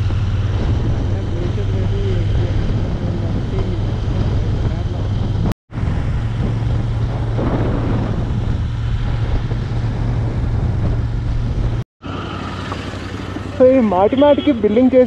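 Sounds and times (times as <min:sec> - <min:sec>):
road noise: 0:00.0 - 0:15.0
rushing wind: 0:00.0 - 0:15.0.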